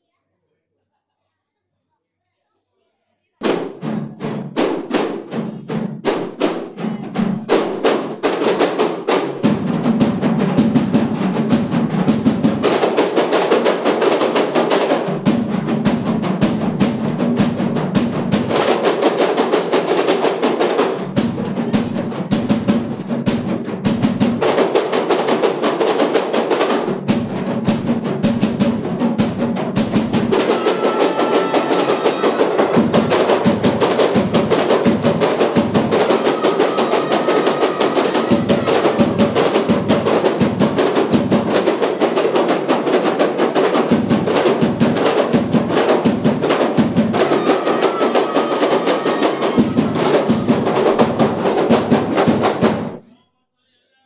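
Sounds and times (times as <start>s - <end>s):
barrel drum beating: 3.4s - 53.0s
frame drums playing fast rhythm: 3.4s - 53.0s.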